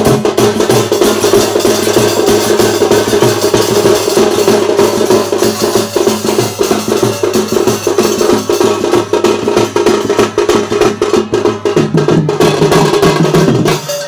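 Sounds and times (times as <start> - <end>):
brass hand cymbals clashing: 0.0 - 10.8, 13.4 - 14.0
drum beating: 0.0 - 14.0.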